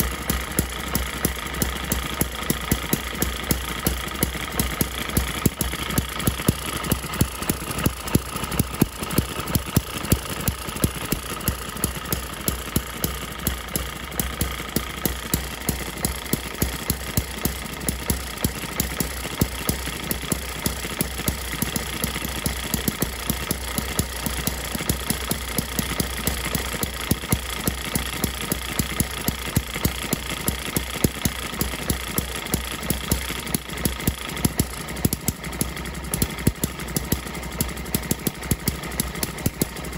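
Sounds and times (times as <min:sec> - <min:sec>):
engine mechanical clatter: 0:00.0 - 0:39.9.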